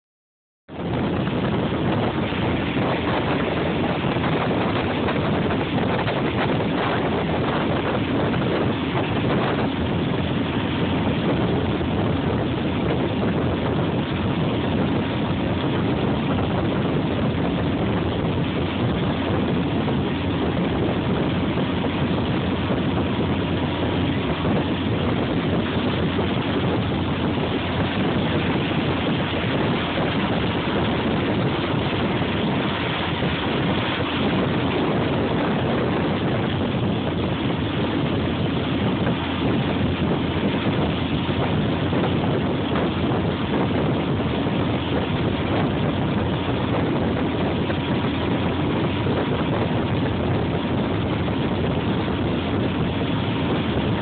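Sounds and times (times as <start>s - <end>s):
motorboat engine running: 0.7s - 54.0s
water rushing: 0.7s - 54.0s
wind: 0.7s - 54.0s.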